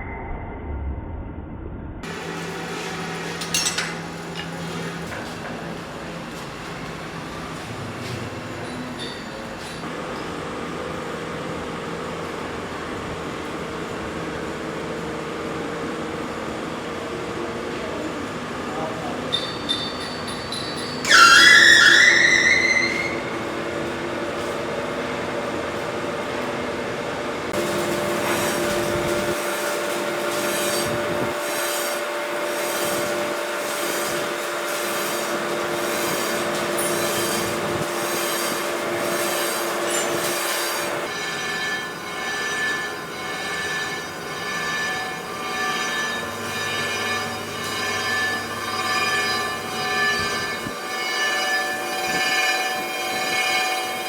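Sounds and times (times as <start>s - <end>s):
grinding machine squealing hum: 2.0s - 12.2s, 12.9s - 54.0s.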